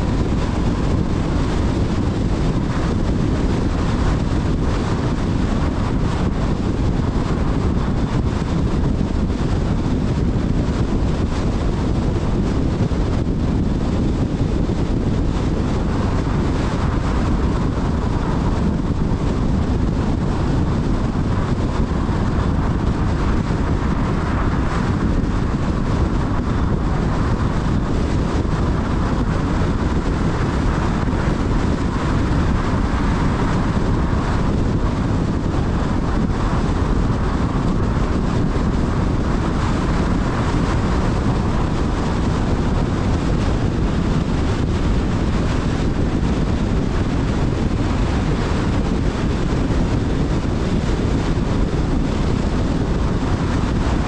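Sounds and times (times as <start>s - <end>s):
wind rush: 0.0s - 54.0s.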